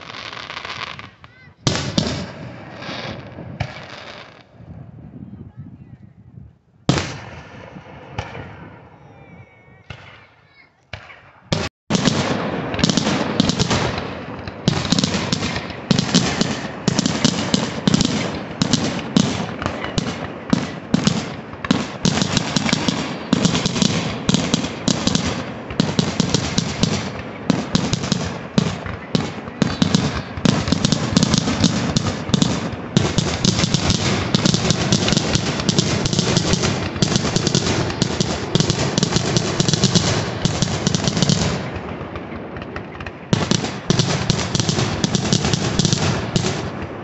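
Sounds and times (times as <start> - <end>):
fireworks crackling: 0.0 - 4.6, 9.7 - 47.0
fireworks bangs: 0.0 - 4.8, 6.9 - 47.0.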